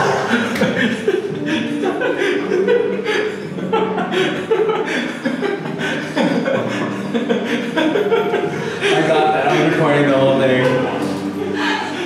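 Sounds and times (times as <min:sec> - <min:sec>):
man and woman laughing: 0:00.0 - 0:09.7.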